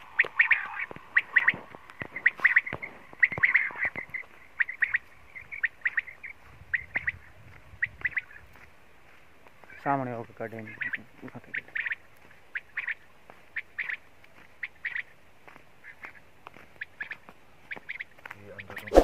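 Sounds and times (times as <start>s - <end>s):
quail calling: 0.0s - 8.7s, 10.5s - 19.0s.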